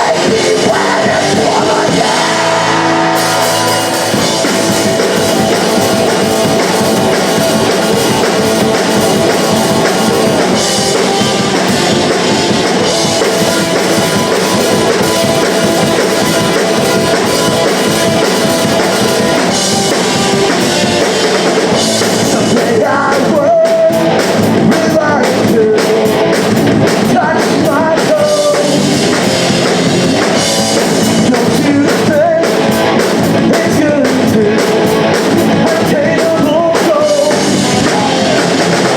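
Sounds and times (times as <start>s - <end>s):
person singing: 0.0s - 29.3s, 30.4s - 38.9s
drum kit: 0.0s - 38.9s
guitars and bass: 0.0s - 38.9s.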